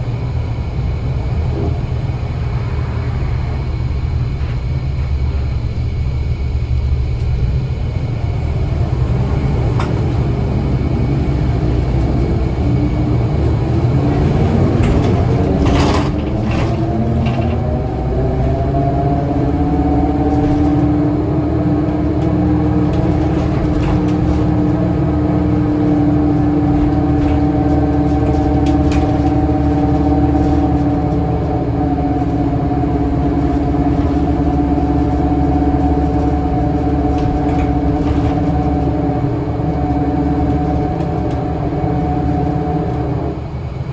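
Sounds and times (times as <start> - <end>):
bus engine droning: 0.0 - 43.9.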